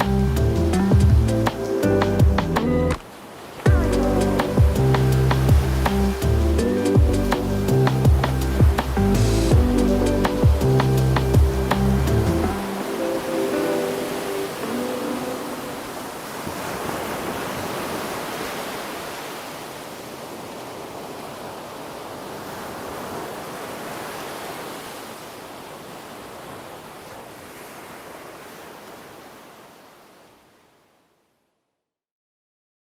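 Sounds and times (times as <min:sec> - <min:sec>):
ocean surf washing: 0:00.0 - 0:31.0.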